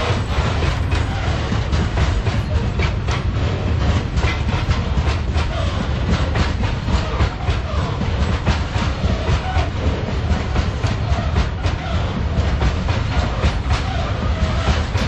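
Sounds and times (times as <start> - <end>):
freight train rumbling: 0.0 - 15.0
wheels clacking over rail joints: 0.0 - 15.0.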